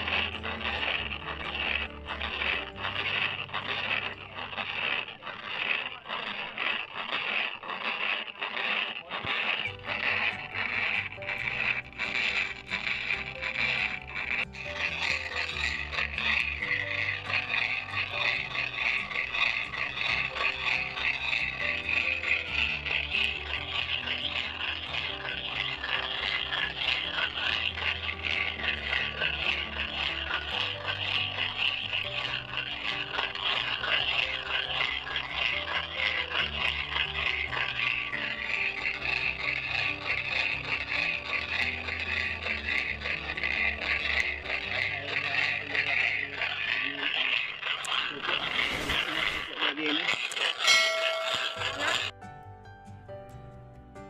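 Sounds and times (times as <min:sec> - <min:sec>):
background music: 0:00.0 - 0:05.6, 0:09.5 - 0:49.0, 0:51.6 - 0:54.0
corn mill grinding peanuts: 0:00.0 - 0:52.2.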